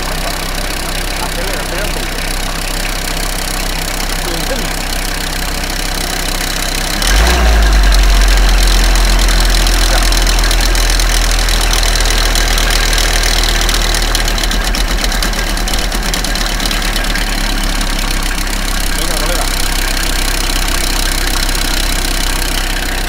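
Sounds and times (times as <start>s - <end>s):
diesel engine running: 0.0s - 23.0s
odd engine noise: 0.0s - 23.0s.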